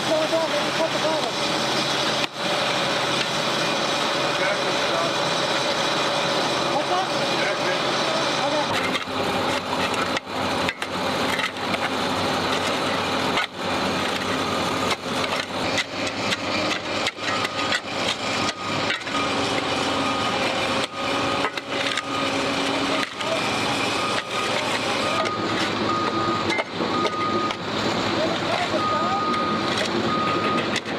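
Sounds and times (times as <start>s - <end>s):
diesel engine humming: 0.0s - 30.9s
hydraulic breaker hammering pavement: 0.0s - 30.9s.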